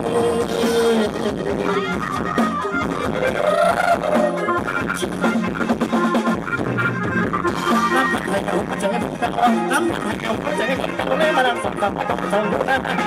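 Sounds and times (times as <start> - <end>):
loud music over sound system: 0.0 - 13.0.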